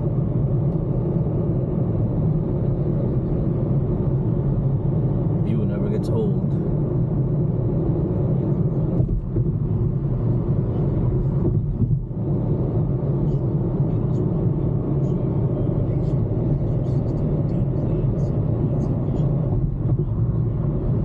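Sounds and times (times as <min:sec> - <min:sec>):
car cabin road and engine rumble: 0:00.0 - 0:21.0.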